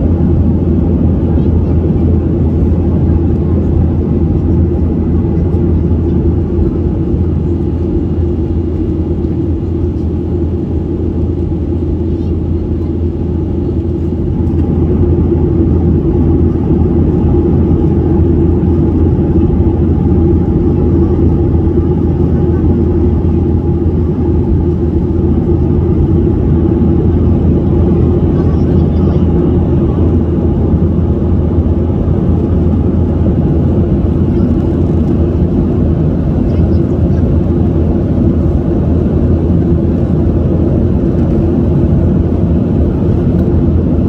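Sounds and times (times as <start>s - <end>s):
airliner cabin engine drone: 0.0s - 44.0s.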